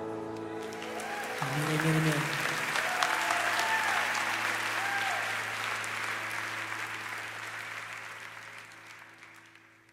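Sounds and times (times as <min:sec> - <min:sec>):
audience applauding and cheering: 0:00.0 - 0:09.9.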